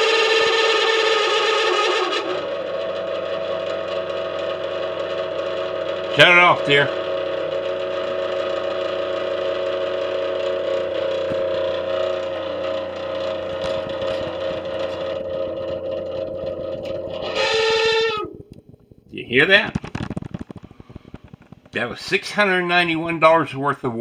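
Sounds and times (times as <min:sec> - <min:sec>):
furnace blower fan drone: 0:00.0 - 0:24.0.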